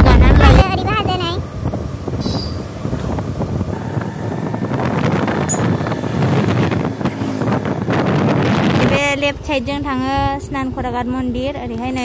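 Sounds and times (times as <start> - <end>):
vehicle noise: 0.0 - 12.0
wind buffeting microphone: 0.0 - 12.0.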